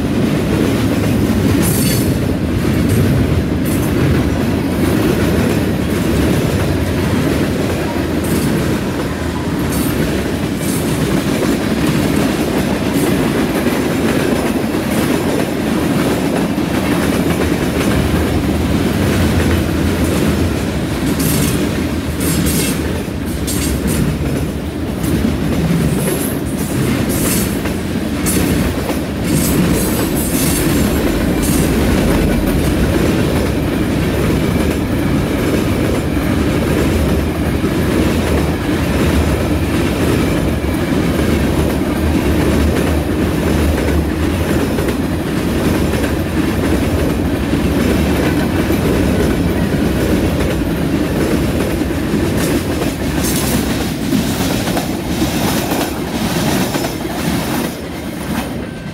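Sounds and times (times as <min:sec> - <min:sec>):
freight train rumbling past: 0:00.0 - 0:58.9.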